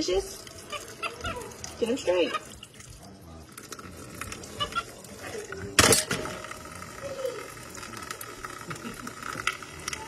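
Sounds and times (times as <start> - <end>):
water splashing in sink: 0.0 - 10.0.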